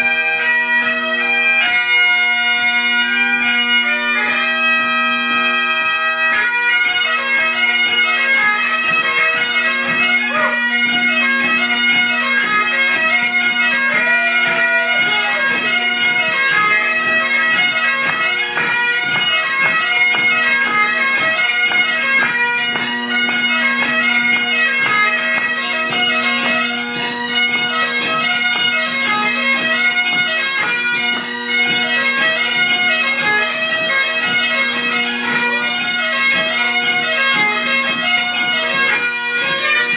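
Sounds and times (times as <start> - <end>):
bagpipe drone: 0.0 - 39.9
bagpipes playing a tune: 0.0 - 39.9.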